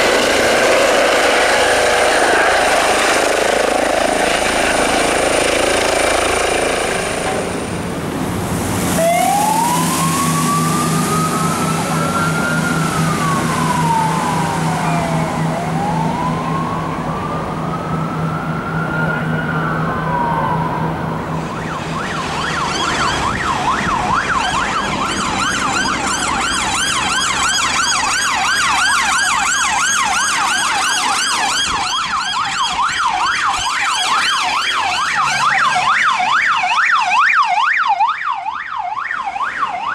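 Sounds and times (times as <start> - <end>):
emergency siren wailing and yelping: 0.0 - 7.9, 9.0 - 39.9.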